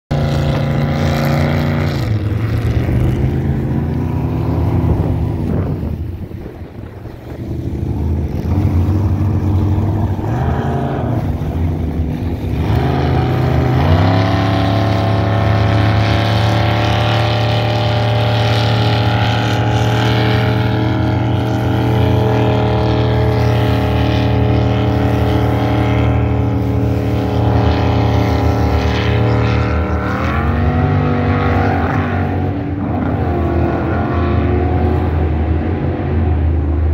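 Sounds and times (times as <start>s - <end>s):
jet boat engines revving: 0.1s - 36.9s.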